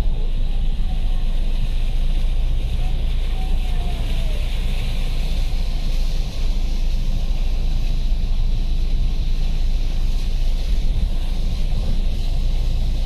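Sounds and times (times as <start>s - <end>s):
engine and tyres rumbling: 0.0s - 13.0s
water hissing around wheels: 0.0s - 13.0s.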